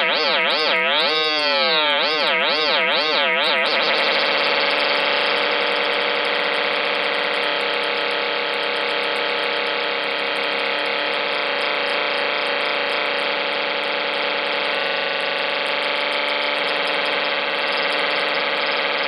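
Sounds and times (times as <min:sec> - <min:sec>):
electronic noise drone: 0:00.0 - 0:19.0.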